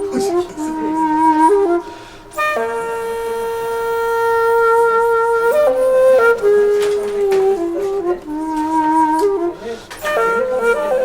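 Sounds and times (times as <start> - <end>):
wind instrument notes: 0.0 - 11.0.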